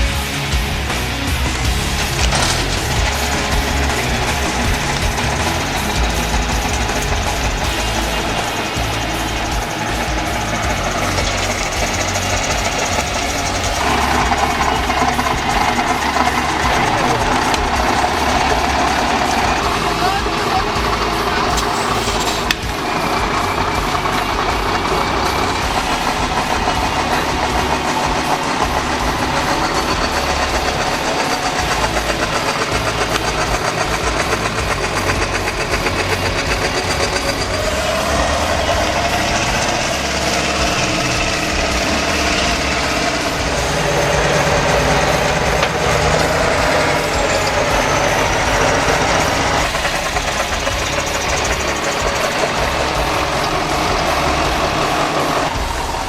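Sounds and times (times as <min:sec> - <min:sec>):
truck diesel engine running: 0:00.0 - 0:56.0.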